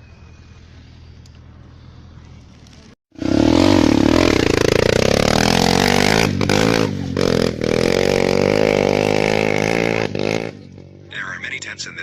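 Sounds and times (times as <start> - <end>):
motorcycle engine revving: 1.6 - 11.4.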